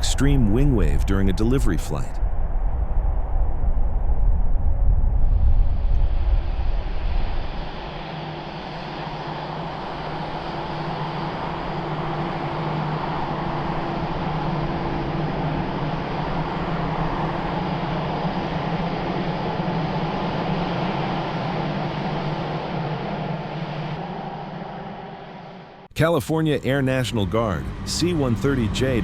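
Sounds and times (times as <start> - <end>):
jet engines in flight: 0.0 - 25.9, 26.6 - 29.0.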